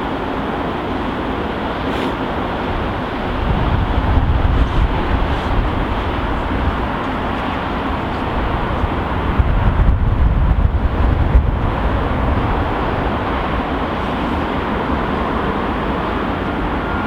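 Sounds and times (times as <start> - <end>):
loud vehicle noise: 0.0 - 17.0
wind rumble on microphone: 0.0 - 17.0.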